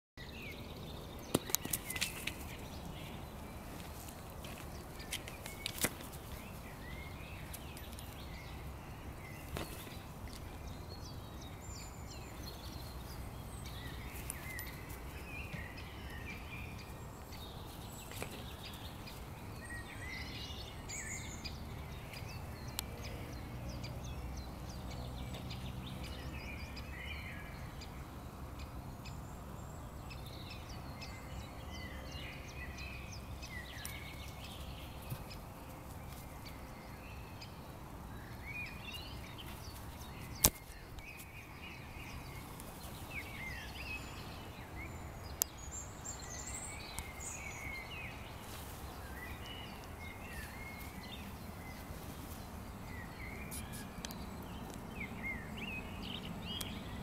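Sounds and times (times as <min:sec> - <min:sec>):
small birds chirping: 0:00.2 - 0:57.0.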